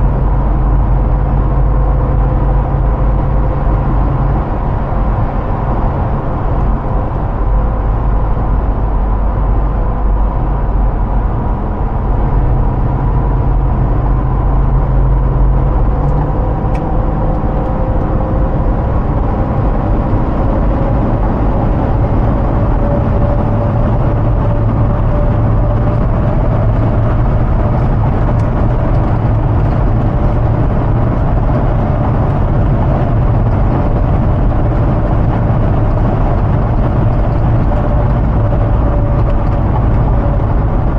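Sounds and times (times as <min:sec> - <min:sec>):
car engine droning: 0:00.0 - 0:40.9
road and wind noise: 0:00.0 - 0:40.9.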